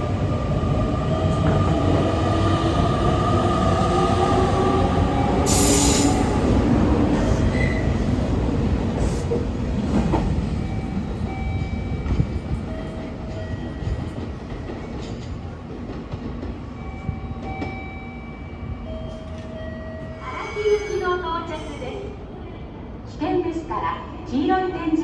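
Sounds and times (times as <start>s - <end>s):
train rumbling: 0.0s - 24.4s.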